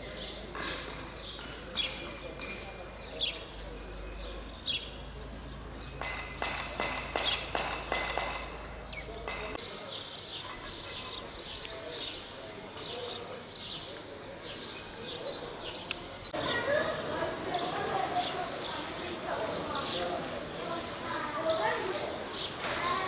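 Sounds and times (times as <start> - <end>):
small birds chirping: 0.0 - 23.0
street ambience: 0.0 - 23.0.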